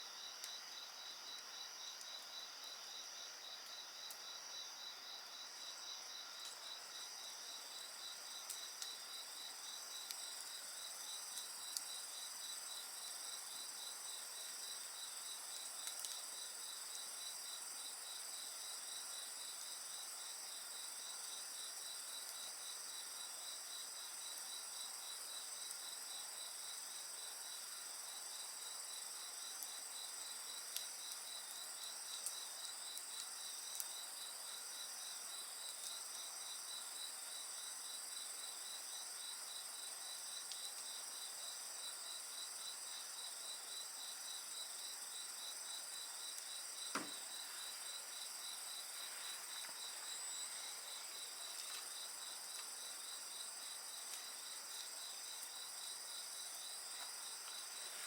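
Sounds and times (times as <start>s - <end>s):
faint wood fire crackles: 0.2s - 58.0s.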